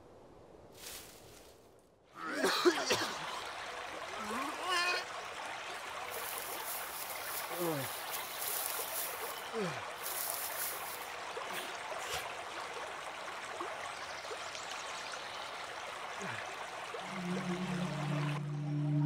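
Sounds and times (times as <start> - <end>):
stream babbling over rocks: 2.2 - 18.4.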